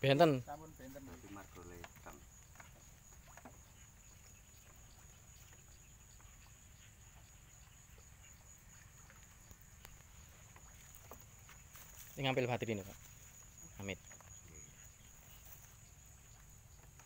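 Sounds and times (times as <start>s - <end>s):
faint small ticks: 1.5s - 12.2s, 12.9s - 17.0s.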